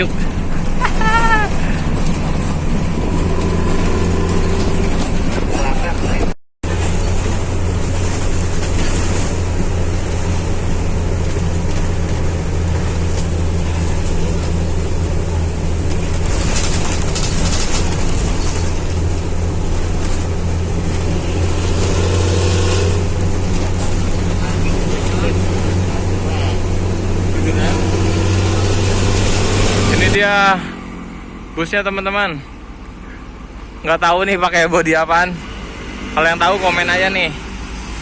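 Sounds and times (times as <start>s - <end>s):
diesel bus engine droning: 0.0s - 38.0s.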